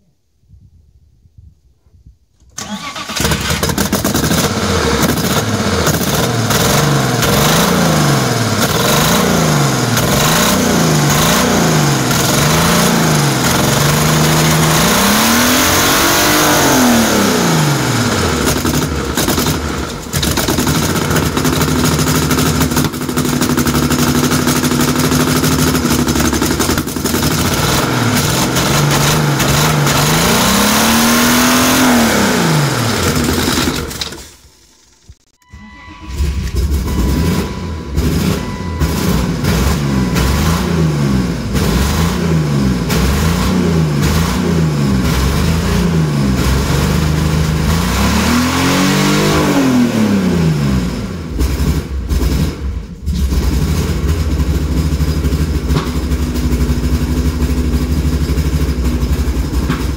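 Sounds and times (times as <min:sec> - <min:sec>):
car engine starting and revving: 0:02.6 - 0:34.5, 0:35.4 - 0:59.9.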